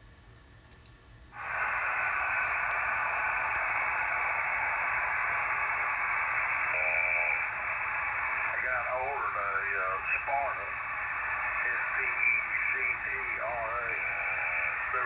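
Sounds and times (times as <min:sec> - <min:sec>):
radio static hiss: 0:01.4 - 0:15.0.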